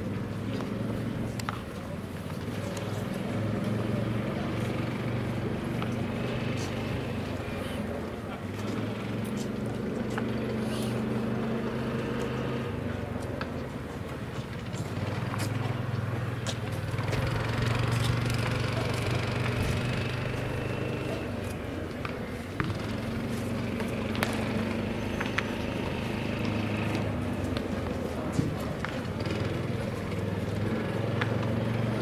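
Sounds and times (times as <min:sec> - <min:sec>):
small engine running: 0:02.2 - 0:32.0.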